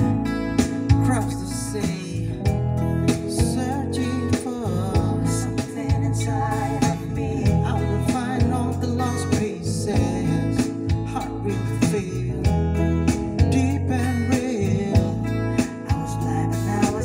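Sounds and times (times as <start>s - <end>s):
song over car speakers: 0.0s - 17.0s.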